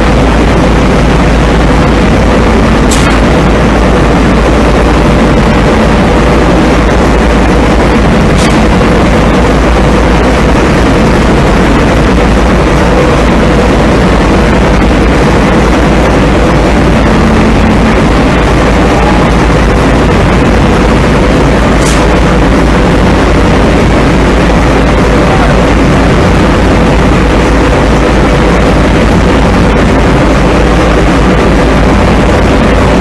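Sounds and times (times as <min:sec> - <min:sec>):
faint steady hum: 0:00.0 - 0:33.0
industrial vacuum cleaner running: 0:00.0 - 0:33.0.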